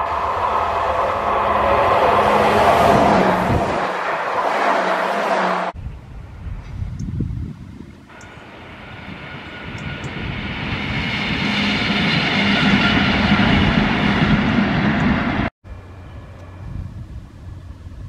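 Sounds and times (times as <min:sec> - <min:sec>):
faint wind noise: 0:00.0 - 0:04.4, 0:05.7 - 0:18.0
train whine: 0:00.0 - 0:06.8, 0:08.1 - 0:18.0
electric train rumble: 0:00.0 - 0:18.0.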